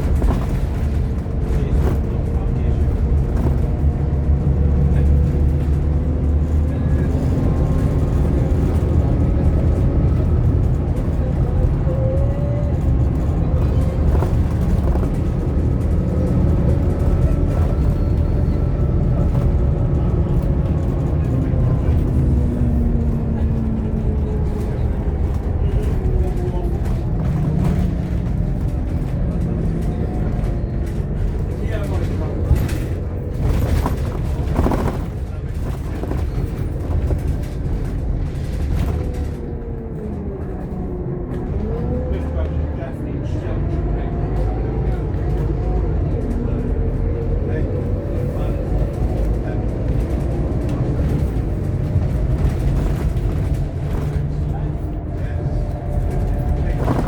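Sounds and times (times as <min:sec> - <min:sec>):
bus diesel engine: 0:00.0 - 0:57.0
road rumble: 0:00.0 - 0:57.0.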